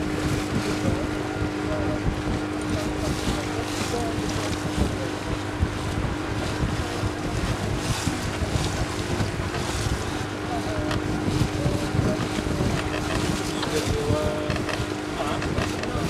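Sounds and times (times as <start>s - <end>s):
boat motor humming: 0.0s - 16.0s
water rushing past hull: 0.0s - 16.0s
wind buffeting microphone: 0.0s - 16.0s.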